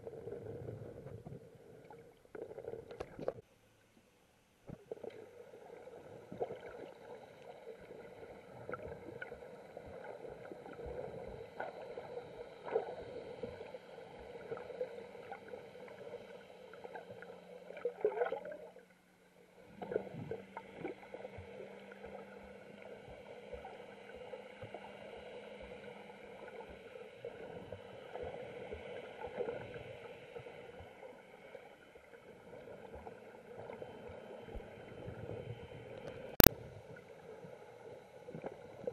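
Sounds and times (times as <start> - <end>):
underwater water noise: 0.0 - 38.9
small clicks and sloshes: 0.1 - 38.9
low steady drone: 5.7 - 38.9.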